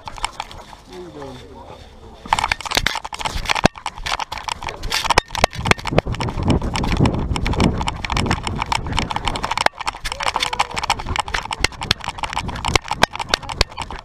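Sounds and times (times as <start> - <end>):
camera knocks and rattles: 0.0 - 0.8, 2.3 - 14.0
rumbling handling noise: 0.0 - 14.0.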